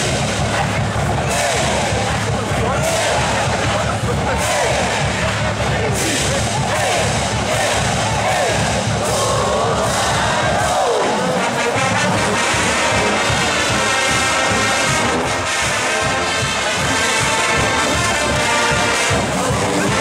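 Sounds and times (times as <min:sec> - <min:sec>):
marching band brass playing: 0:00.0 - 0:20.0
pounding drum beat: 0:00.0 - 0:20.0.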